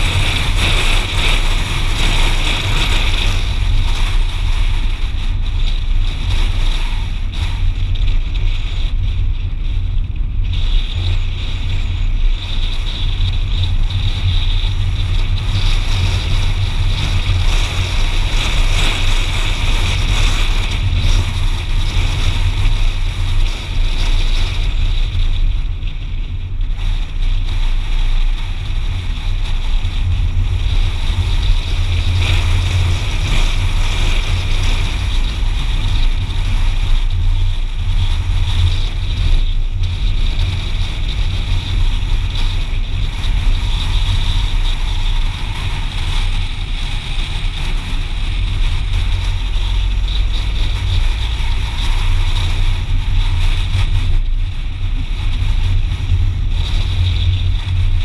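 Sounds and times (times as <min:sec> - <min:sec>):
car engine and tyre rumble: 0:00.0 - 0:58.0
wind noise: 0:00.0 - 0:58.0.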